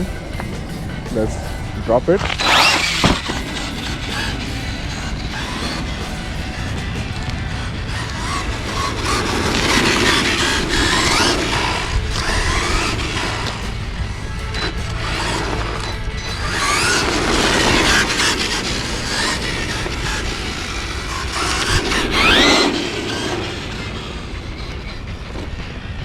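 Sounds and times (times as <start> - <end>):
electric motor whining: 0.0 - 26.0
truck knocking and clattering: 0.0 - 26.0
tyres and drivetrain rumbling: 0.0 - 26.0.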